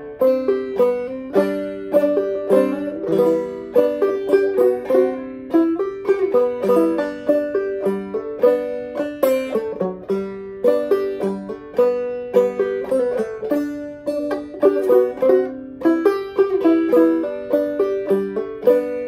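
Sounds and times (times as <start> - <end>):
banjo playing a waltz: 0.0 - 19.0.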